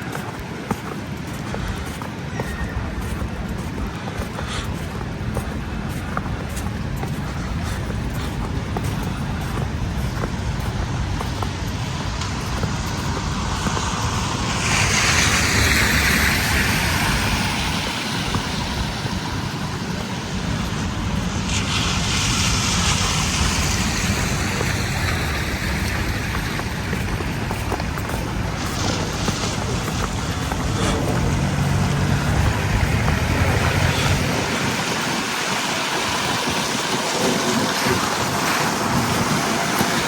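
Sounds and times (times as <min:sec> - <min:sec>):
traffic rumble: 0:00.0 - 0:40.0
vehicles passing: 0:00.0 - 0:40.0.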